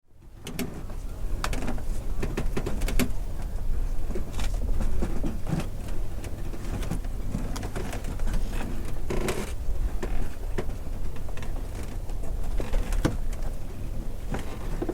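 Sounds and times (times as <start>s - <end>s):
steady low rumble: 0.1s - 14.9s
wooden dock creaking: 0.4s - 14.9s.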